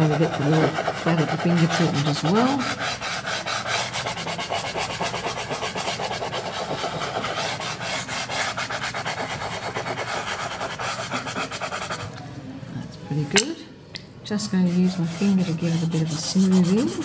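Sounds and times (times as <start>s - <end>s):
pastel scraping on paper: 0.0s - 12.1s, 14.5s - 17.0s.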